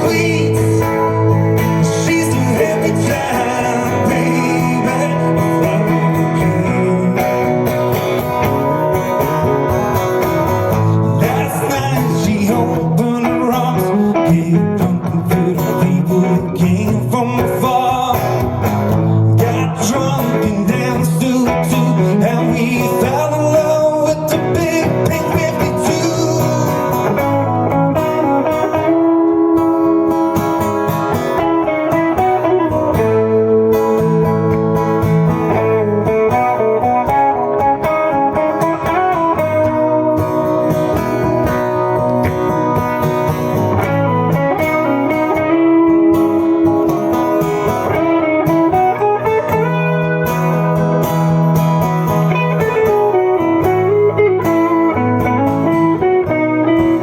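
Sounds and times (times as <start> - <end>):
guitar: 0.0 - 57.0
live band playing: 0.0 - 57.0.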